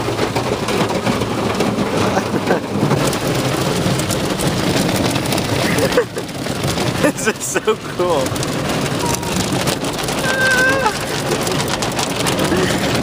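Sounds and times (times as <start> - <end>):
water spraying on car body: 0.0 - 13.0.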